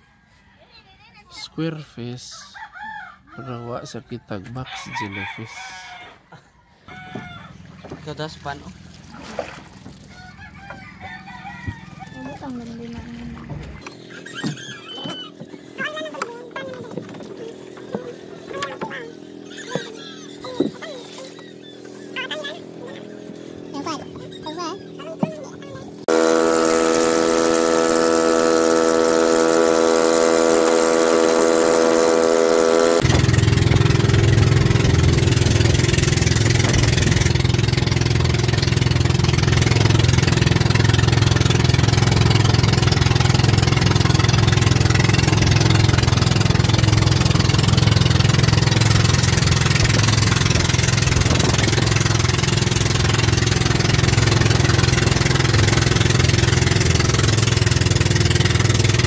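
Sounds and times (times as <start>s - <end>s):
engine running steadily: 7.2s - 59.0s.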